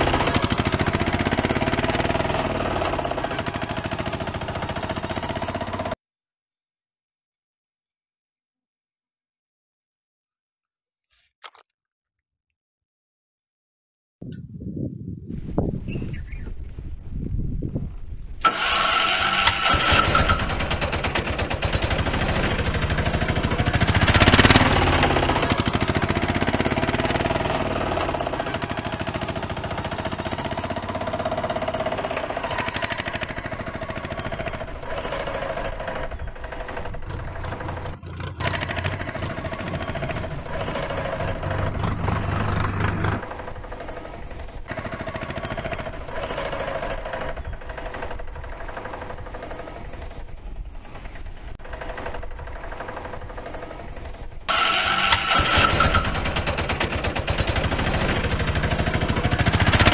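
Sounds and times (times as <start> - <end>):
tractor engine running: 0.0 - 6.0, 17.9 - 59.9.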